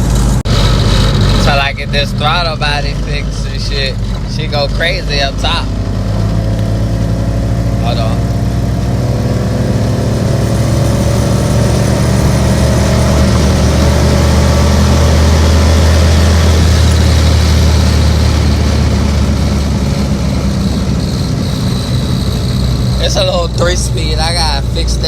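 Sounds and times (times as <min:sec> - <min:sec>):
car engine droning inside cabin: 0:00.0 - 0:25.0.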